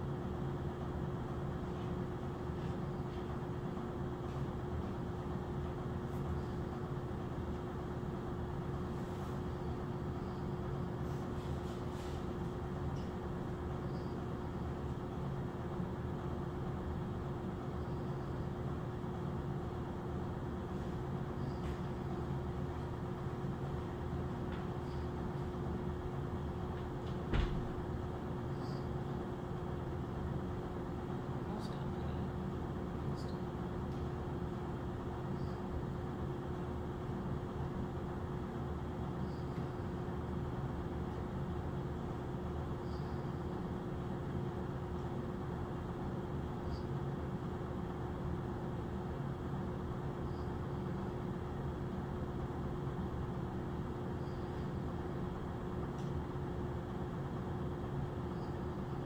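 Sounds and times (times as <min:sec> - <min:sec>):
constant mid-pitched hum: 0:00.0 - 0:59.0
low mechanical rumble: 0:00.0 - 0:59.0.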